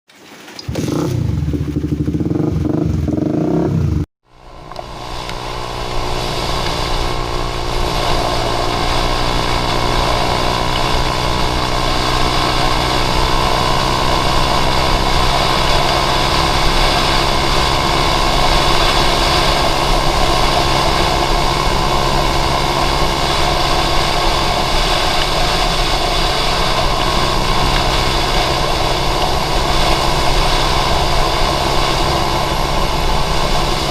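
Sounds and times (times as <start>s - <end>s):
motorcycle engine running: 0.6s - 33.9s
wind and road noise: 0.6s - 33.9s.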